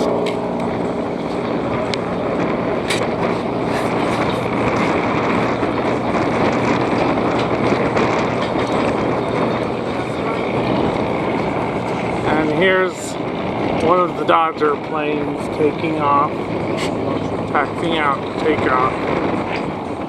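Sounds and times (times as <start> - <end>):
propeller plane engine running: 0.0 - 20.0.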